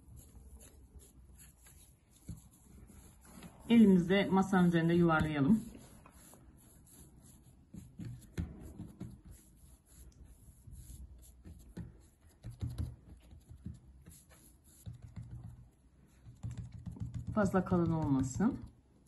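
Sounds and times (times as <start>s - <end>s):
hands rolling cookie dough: 0.0s - 18.8s.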